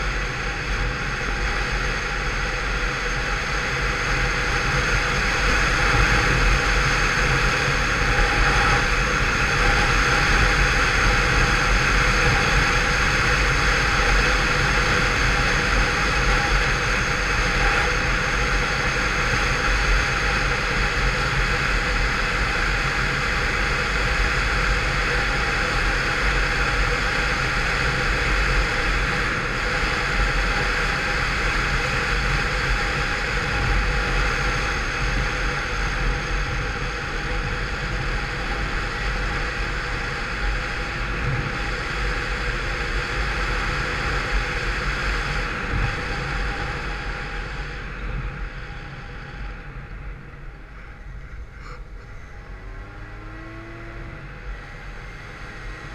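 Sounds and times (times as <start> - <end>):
scooter engine running: 0.0 - 55.9.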